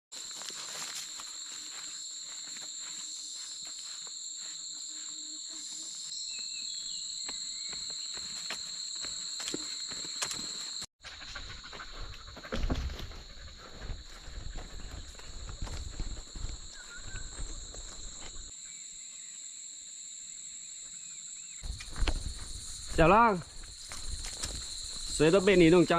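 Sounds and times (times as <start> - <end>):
insects trilling: 0.2 - 25.9.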